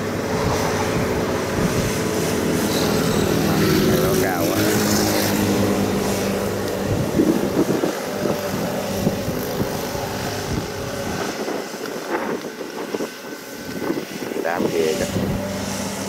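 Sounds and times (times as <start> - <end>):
combine harvester engine drone: 0.0 - 16.0.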